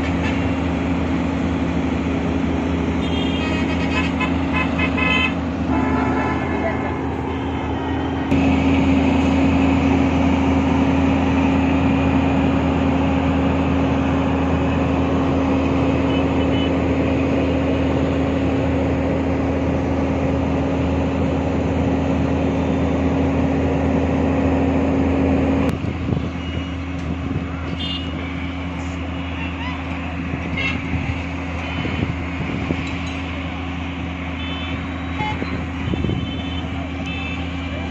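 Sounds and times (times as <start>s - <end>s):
heavy vehicle engine humming: 0.0s - 37.9s.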